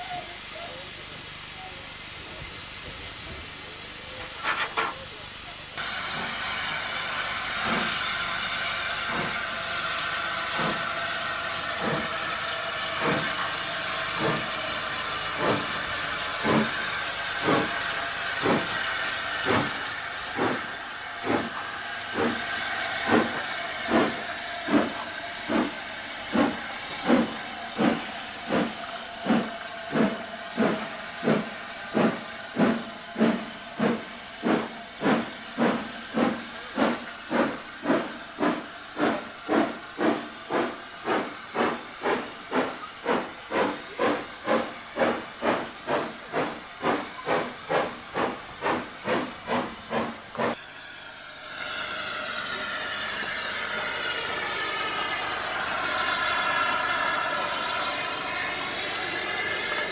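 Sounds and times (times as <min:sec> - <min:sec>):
steam hissing: 0:00.0 - 0:59.9
steam locomotive exhaust beats: 0:00.0 - 0:59.9.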